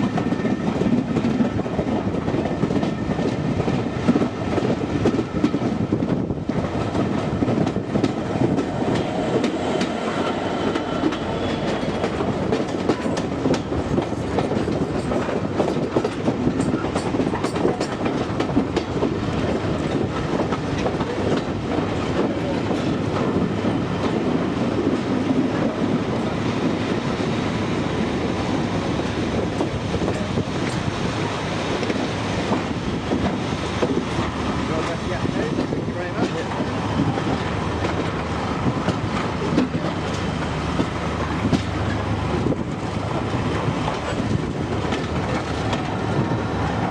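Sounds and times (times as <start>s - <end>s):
train wheels clicking over rail joints: 0.0s - 46.9s.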